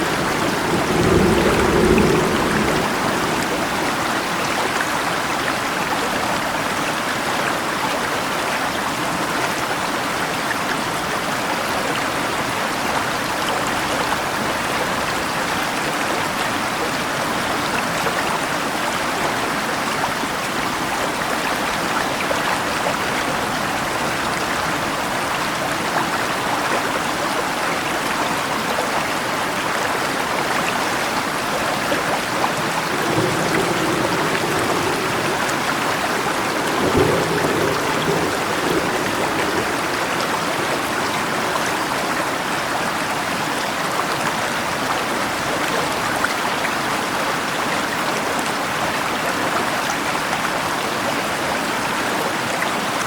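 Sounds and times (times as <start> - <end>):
rain falling: 0.0 - 53.0
river water flowing: 0.0 - 53.0.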